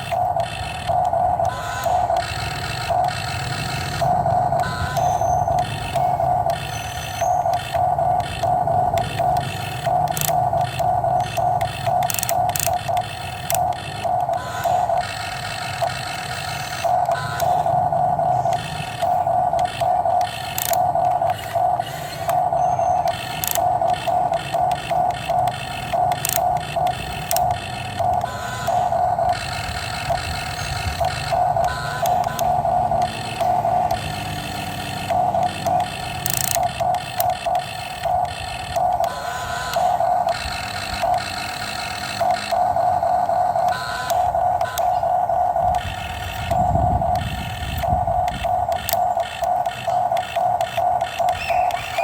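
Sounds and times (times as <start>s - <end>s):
excavator whine: 0.0s - 52.0s.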